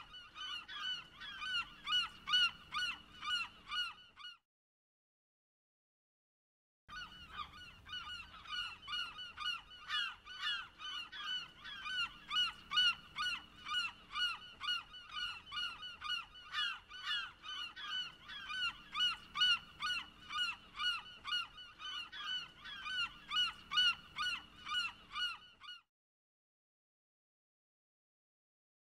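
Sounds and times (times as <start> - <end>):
gulls yelping calls: 0.0 - 4.4, 6.9 - 25.8.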